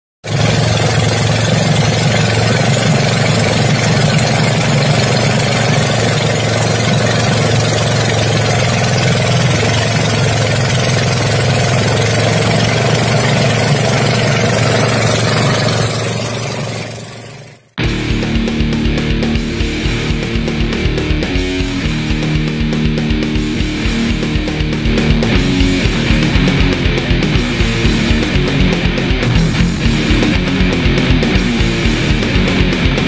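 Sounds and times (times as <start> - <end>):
boat engine running: 0.2 - 33.0.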